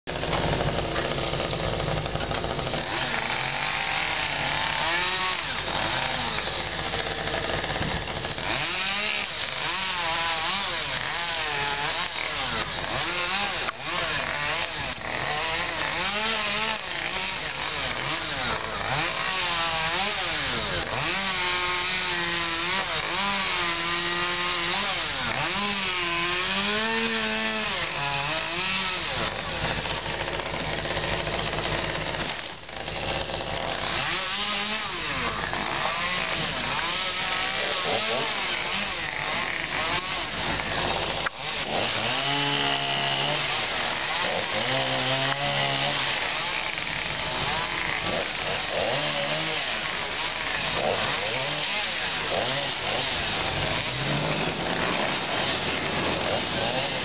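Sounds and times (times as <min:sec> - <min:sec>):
chainsaw revving: 0:00.1 - 0:57.0.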